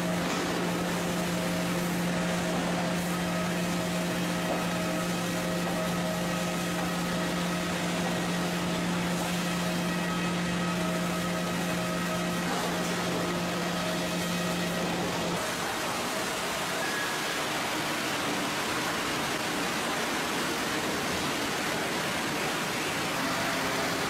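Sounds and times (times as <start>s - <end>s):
sawmill machinery humming: 0.0s - 24.0s.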